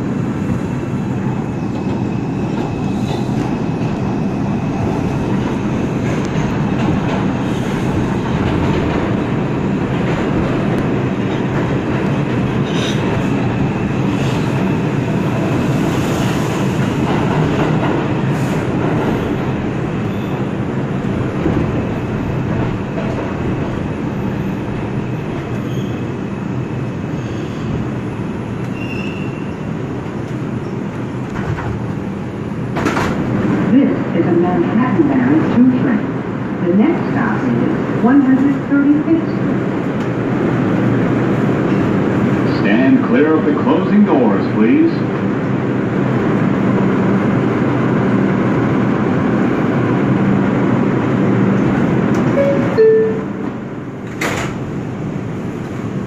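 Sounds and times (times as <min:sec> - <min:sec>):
subway wheels rumbling on rail: 0:00.0 - 0:56.0.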